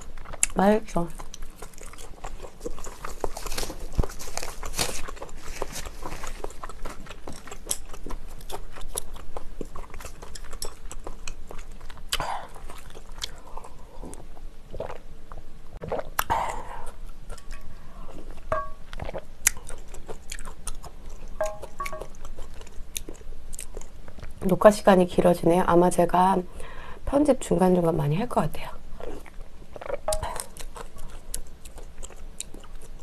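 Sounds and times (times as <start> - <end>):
person chewing wetly: 0.0 - 24.4, 29.0 - 33.0.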